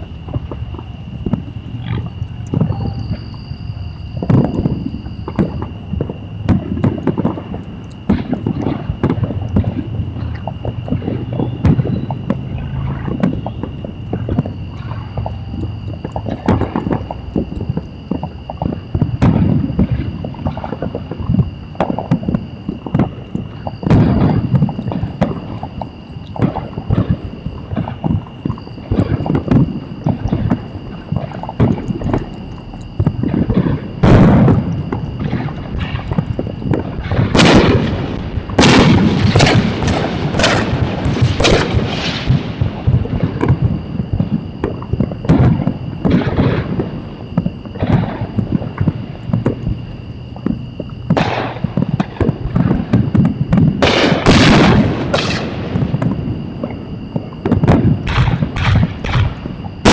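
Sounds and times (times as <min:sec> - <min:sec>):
fireworks booms and bangs: 0:00.0 - 0:03.4, 0:04.1 - 0:59.9.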